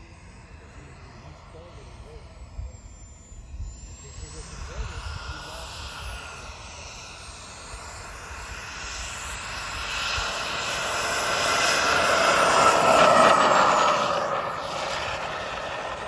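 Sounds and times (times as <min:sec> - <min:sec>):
model jet engine whine: 0:00.0 - 0:16.0.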